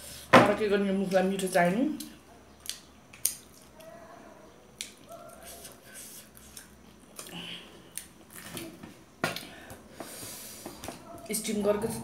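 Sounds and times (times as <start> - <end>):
quiet eating sounds: 1.0 - 12.0.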